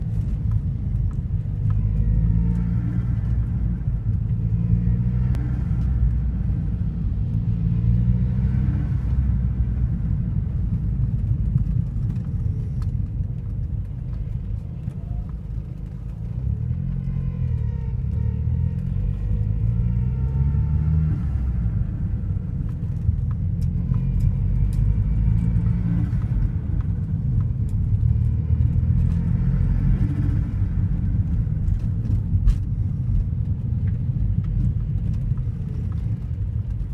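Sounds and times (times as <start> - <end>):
car engine revving: 0.0 - 12.9, 15.7 - 36.9.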